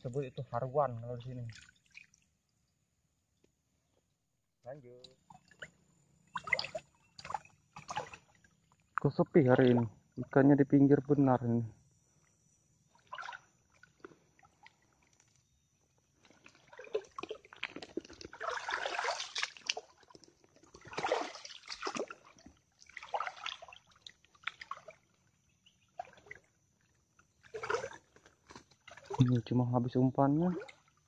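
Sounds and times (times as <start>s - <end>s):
water sloshing from wading: 0.2s - 2.6s, 5.0s - 10.2s, 12.1s - 29.5s, 30.4s - 31.0s.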